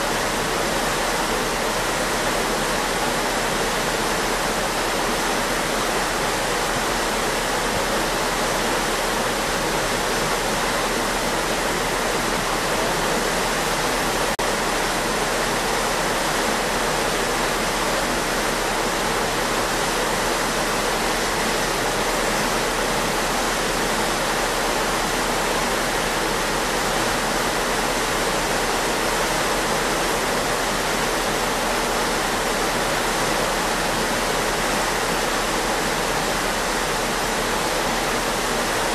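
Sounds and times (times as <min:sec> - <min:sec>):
ship's wake rushing water: 0:00.0 - 0:38.9.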